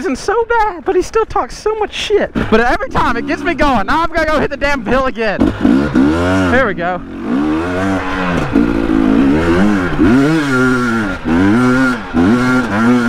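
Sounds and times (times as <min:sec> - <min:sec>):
dirt bike engine revving: 0:02.3 - 0:13.0.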